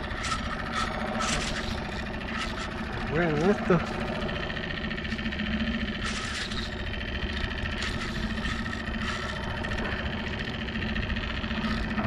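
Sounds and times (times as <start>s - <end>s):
small outboard motor running: 0.0s - 12.0s.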